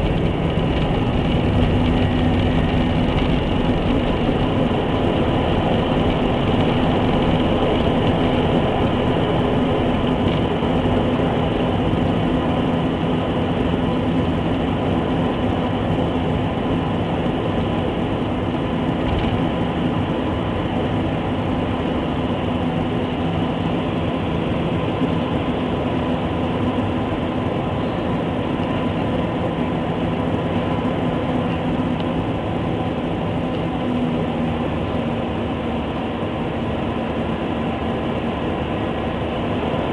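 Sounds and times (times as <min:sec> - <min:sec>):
jet engines and airflow in cabin: 0:00.0 - 0:39.9.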